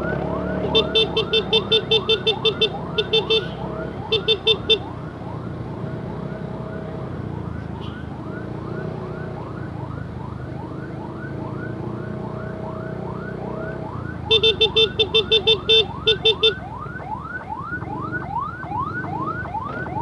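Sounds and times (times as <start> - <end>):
ambulance siren yelping: 0.0 - 20.0.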